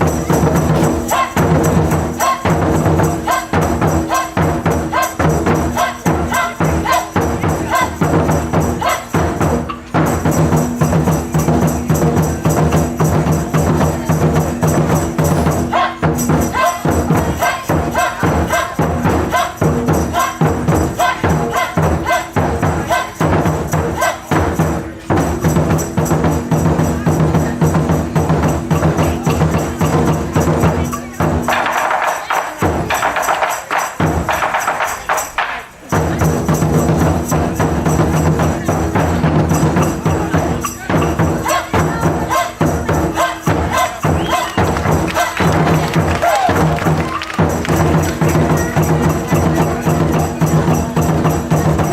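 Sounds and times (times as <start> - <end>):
drum and cymbal ensemble playing: 0.0 - 51.9.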